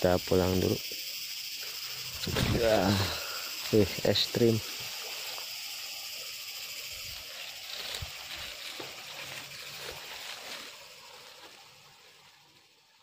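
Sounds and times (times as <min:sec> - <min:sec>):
high outdoor hiss: 0:00.0 - 0:13.0.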